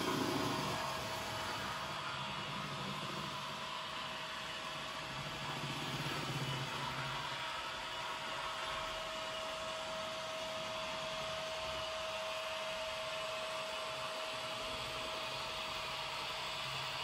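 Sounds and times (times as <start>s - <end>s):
electric locomotive running whine: 0.0s - 17.0s.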